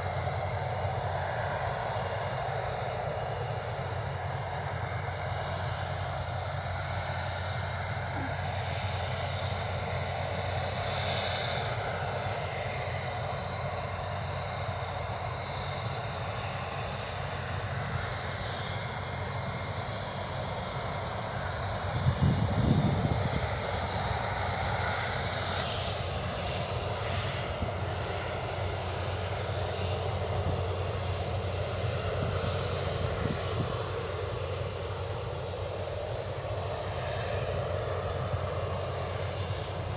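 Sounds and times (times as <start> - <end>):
aircraft engines: 0.0 - 39.9.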